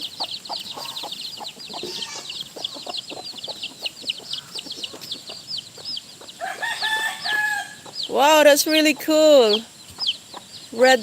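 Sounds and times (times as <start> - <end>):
chickens clucking: 0.0 - 11.0
chickens peeping: 0.0 - 11.0.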